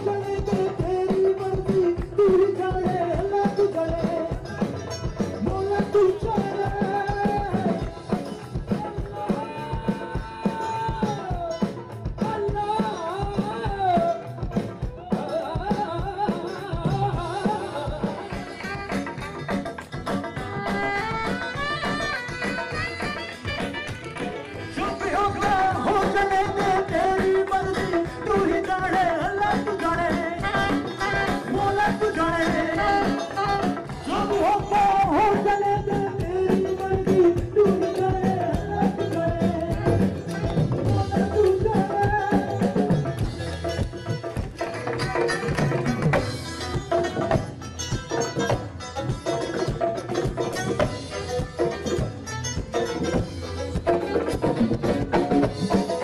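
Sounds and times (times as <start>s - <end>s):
person singing: 0.0s - 19.5s, 20.2s - 48.6s
guitars: 0.0s - 56.0s
live band playing: 0.0s - 56.0s
steady drum beat: 0.0s - 56.0s.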